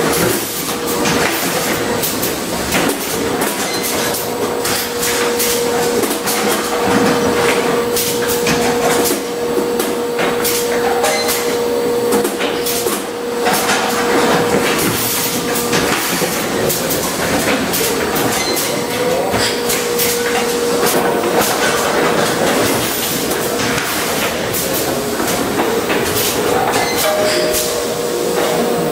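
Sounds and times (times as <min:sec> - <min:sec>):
packaging machine clicking and clattering: 0:00.0 - 0:28.9.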